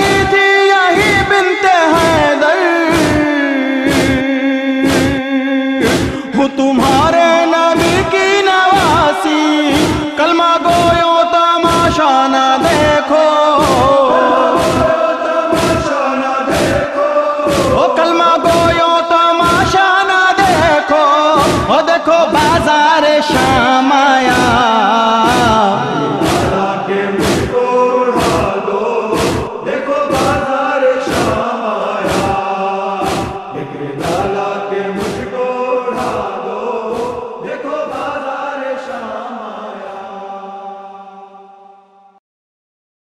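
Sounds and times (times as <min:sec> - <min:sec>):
chest-beating thumps: 0:00.0 - 0:01.3, 0:01.9 - 0:02.3, 0:02.9 - 0:18.8, 0:19.4 - 0:19.8, 0:20.4 - 0:20.8, 0:21.4 - 0:38.1
men chanting: 0:00.0 - 0:41.9.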